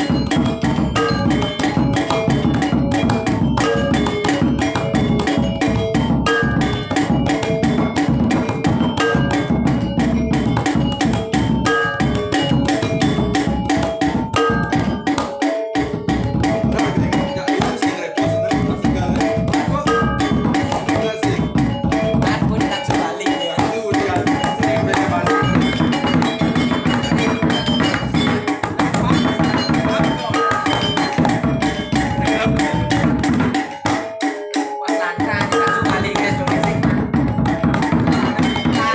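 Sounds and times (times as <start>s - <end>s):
gamelan music: 0.0s - 38.9s.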